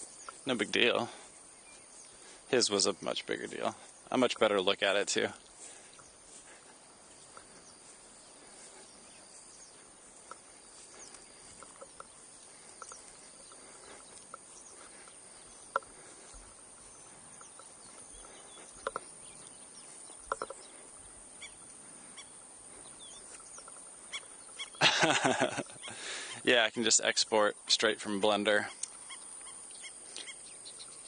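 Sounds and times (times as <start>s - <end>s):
birds calling sharply: 0.0s - 26.5s, 27.8s - 31.0s
faint outdoor background: 0.0s - 31.0s.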